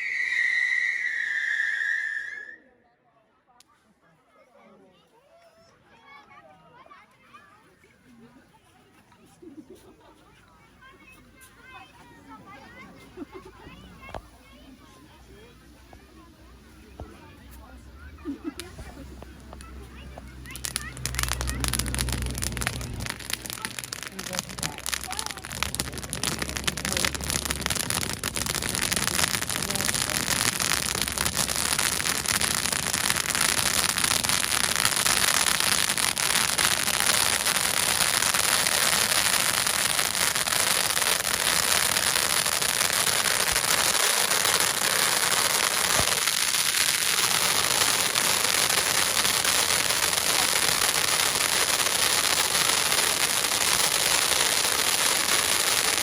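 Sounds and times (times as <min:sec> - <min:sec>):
fireworks crackling: 0:00.0 - 0:02.2, 0:10.9 - 0:56.0.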